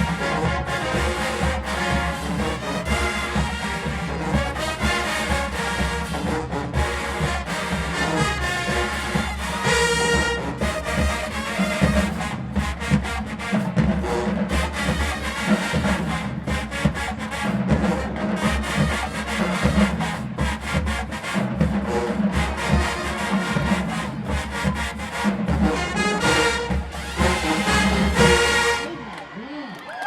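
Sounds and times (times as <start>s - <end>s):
held brass chords: 0.0s - 29.3s
drumline beat: 0.0s - 29.4s
marching band playing: 0.0s - 29.4s.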